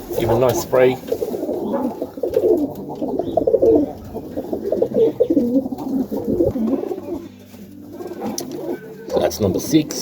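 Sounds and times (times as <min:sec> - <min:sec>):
pigeons cooing: 0:00.0 - 0:09.6.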